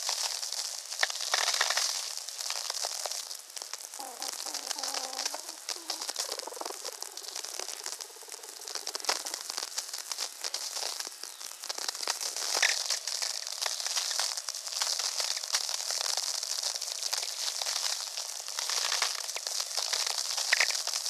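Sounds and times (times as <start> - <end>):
radio static crackle and pops: 0.0 - 21.0
steady hiss: 0.0 - 21.0.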